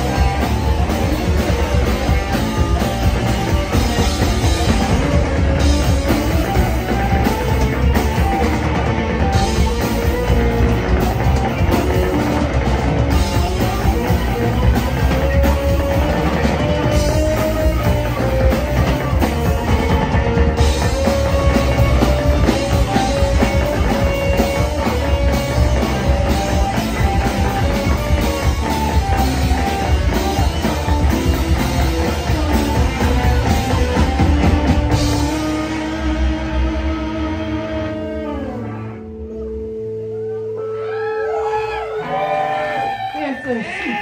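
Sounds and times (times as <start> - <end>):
electric guitar held notes: 0.0 - 43.2
live rock band playing: 0.0 - 44.0.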